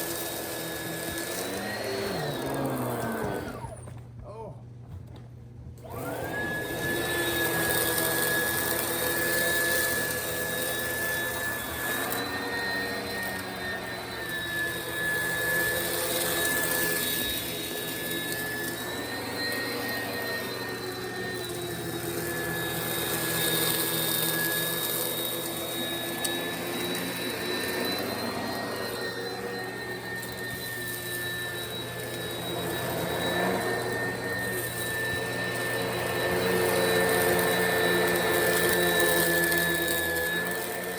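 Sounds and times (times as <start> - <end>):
vacuum cleaner on carpet: 0.0 - 4.0, 5.8 - 40.9.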